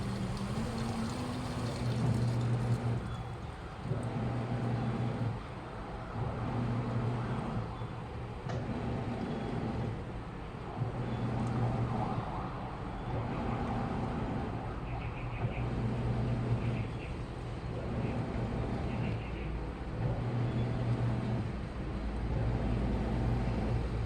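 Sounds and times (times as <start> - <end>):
washing machine motor hum: 0.0 - 14.8, 15.4 - 24.0
washing machine churning: 0.0 - 24.0.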